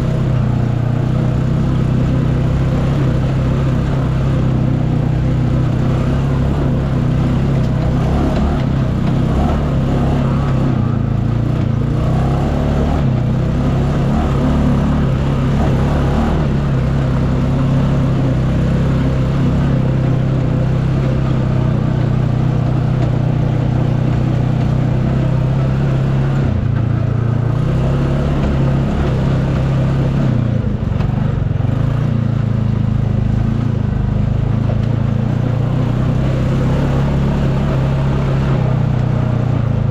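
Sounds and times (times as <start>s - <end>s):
utility vehicle engine running: 0.0s - 39.9s.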